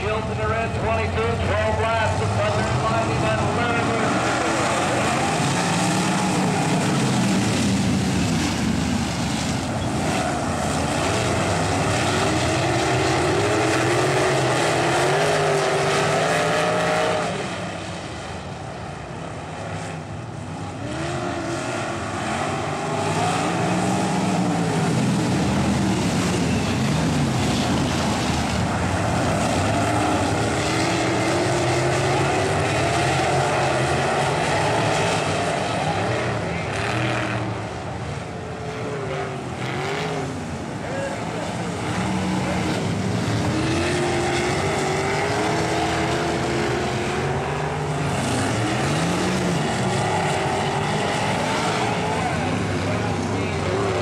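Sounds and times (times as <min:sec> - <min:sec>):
racing car engines: 0:00.0 - 0:54.0.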